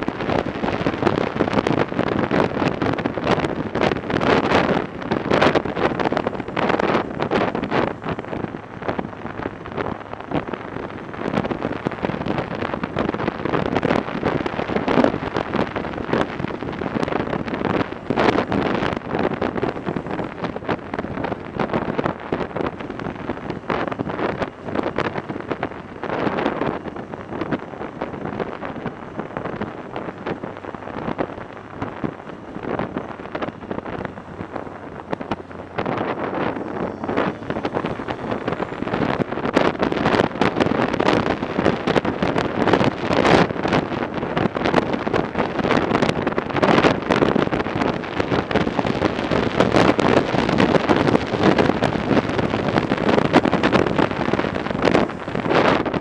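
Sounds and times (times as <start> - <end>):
motorcycle riding: 0.0 - 56.0
wind rushing over microphone: 0.0 - 56.0.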